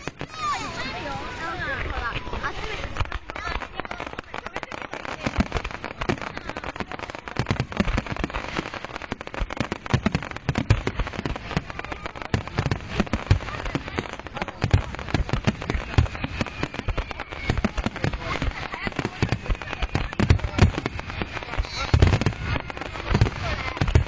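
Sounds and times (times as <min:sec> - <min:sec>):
firework booms: 0:00.0 - 0:24.0
firework crackling: 0:00.0 - 0:24.0.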